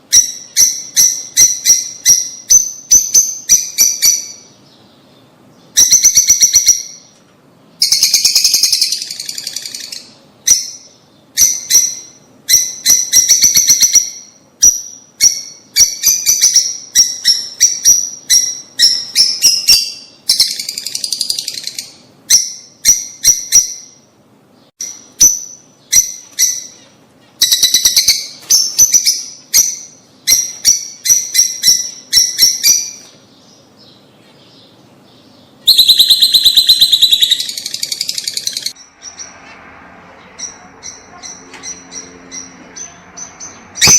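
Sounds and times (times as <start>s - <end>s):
lovebirds chirping: 0.0s - 43.9s.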